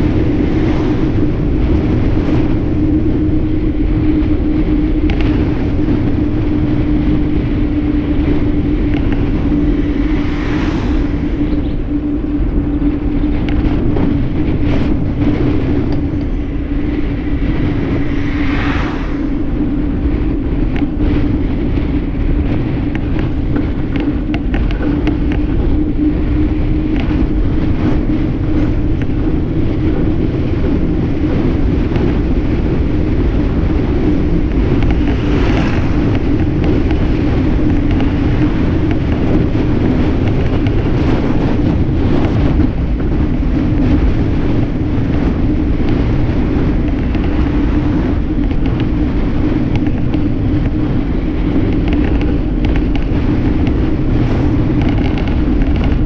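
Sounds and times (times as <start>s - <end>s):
steady low hum: 0.0s - 56.0s
wind rushing over microphone: 0.0s - 56.0s.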